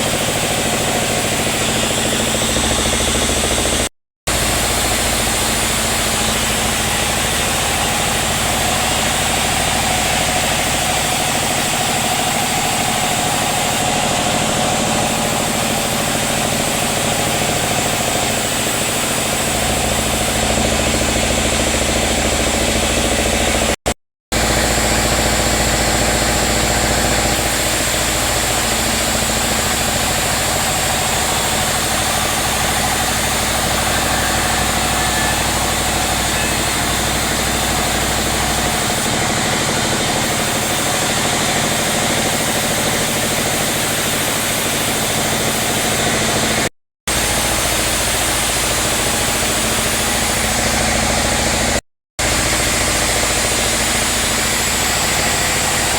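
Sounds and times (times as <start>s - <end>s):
sawmill saw running: 0.0s - 55.9s.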